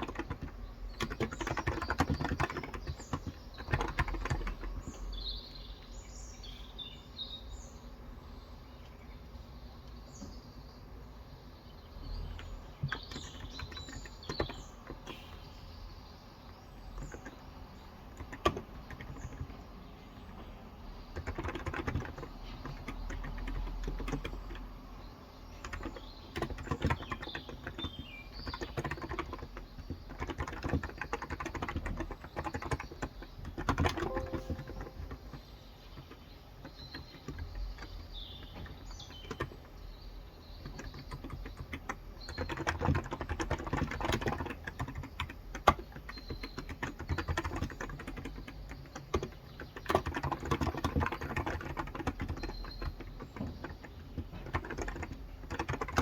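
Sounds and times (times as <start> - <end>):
typing on a keyboard: 0.0 - 5.3, 12.2 - 15.4, 16.7 - 56.0
birds chirping: 0.0 - 56.0.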